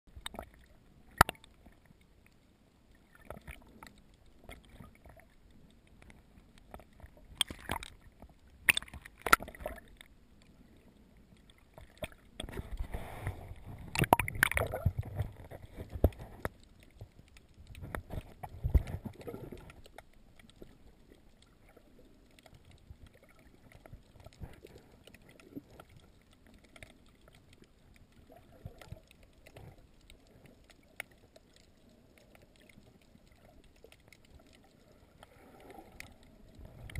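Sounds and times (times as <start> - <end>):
water gurgling and sloshing: 0.1 - 36.9.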